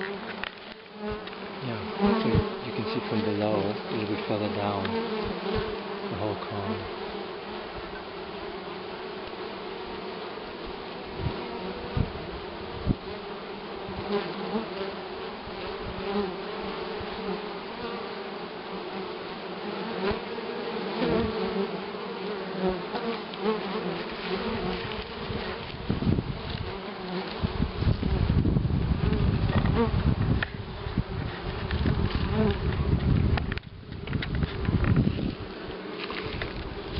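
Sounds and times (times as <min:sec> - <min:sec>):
bees buzzing: 0:00.0 - 0:36.9.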